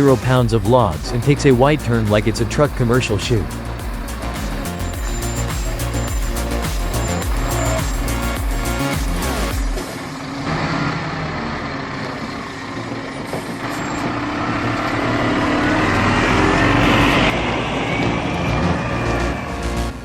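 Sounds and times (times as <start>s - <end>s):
truck engine under load: 0.0s - 20.0s.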